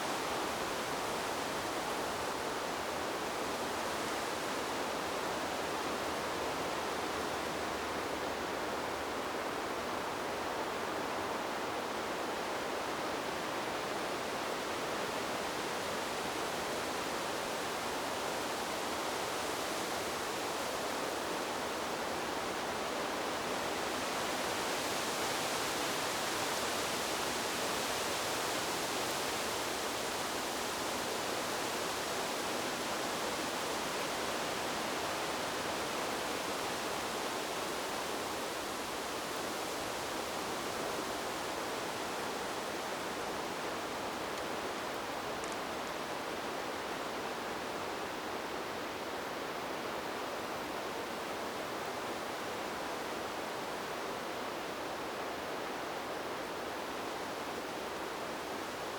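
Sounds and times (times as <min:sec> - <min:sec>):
wind rustling bamboo leaves: 0:00.0 - 0:58.9.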